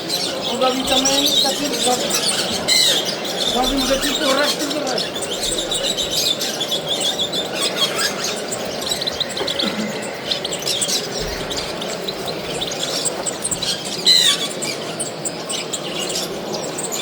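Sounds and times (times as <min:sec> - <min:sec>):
bird twittering song: 0:00.0 - 0:17.0.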